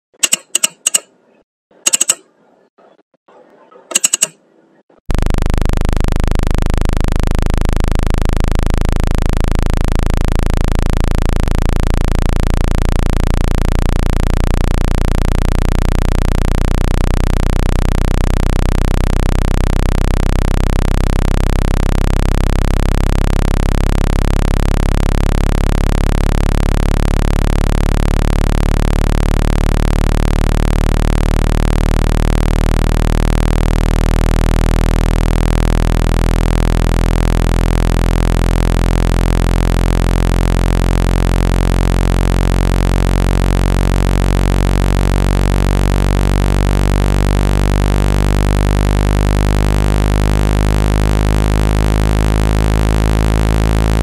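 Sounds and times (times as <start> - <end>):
low-pitched synthesized buzz: 5.1 - 54.0.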